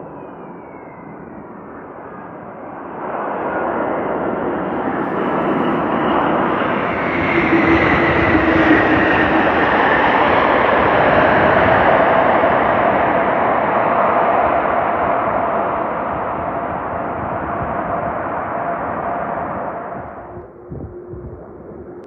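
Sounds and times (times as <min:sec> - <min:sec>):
jet engine whine falling: 0:00.0 - 0:22.0
jet engines roaring: 0:00.0 - 0:22.0.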